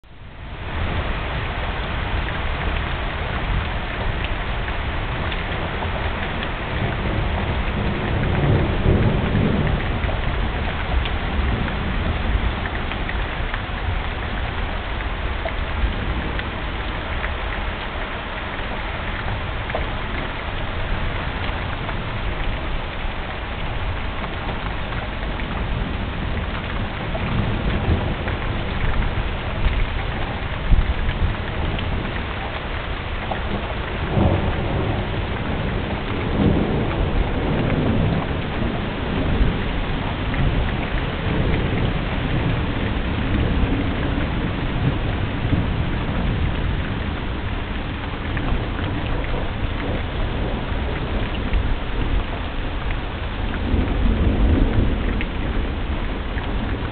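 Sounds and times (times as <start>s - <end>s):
steady rain falling: 0.0s - 56.9s
low thunder rumbling: 0.6s - 56.9s.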